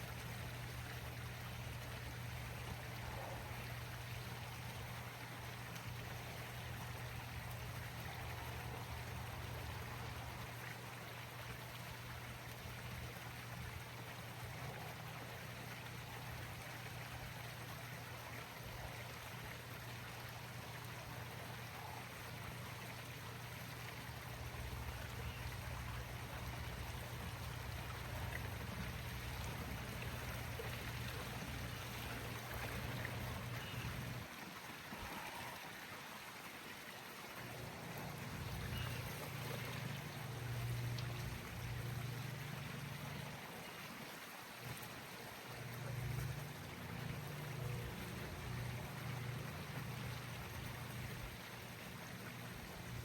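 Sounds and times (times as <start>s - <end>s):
running water: 0.0s - 53.0s.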